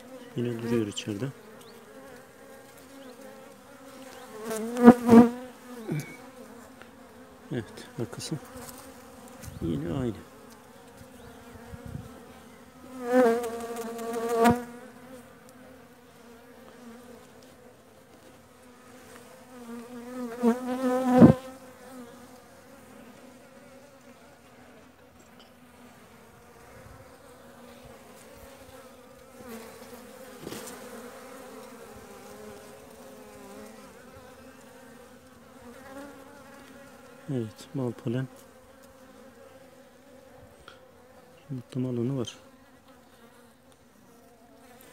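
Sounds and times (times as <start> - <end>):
honeybees buzzing: 0.0 - 44.9
single bee buzzing close by: 0.0 - 44.9.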